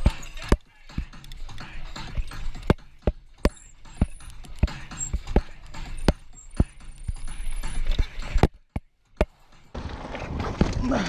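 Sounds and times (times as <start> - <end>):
bike clattering over rocks: 0.0 - 11.0.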